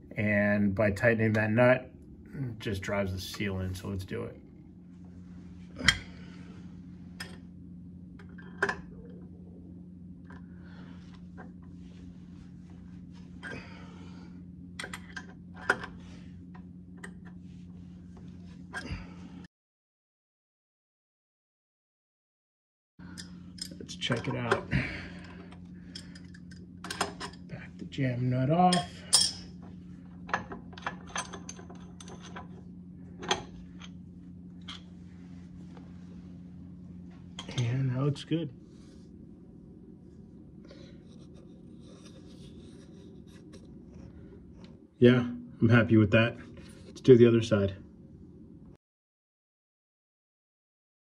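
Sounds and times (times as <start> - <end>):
steady low hum: 0.0 - 19.5, 23.0 - 48.8.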